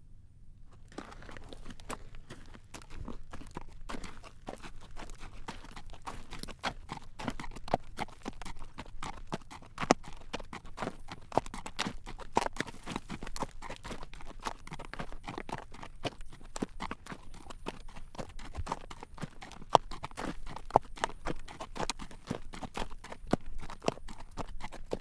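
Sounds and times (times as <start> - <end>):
horse hooves clip-clopping on road: 0.9 - 25.0.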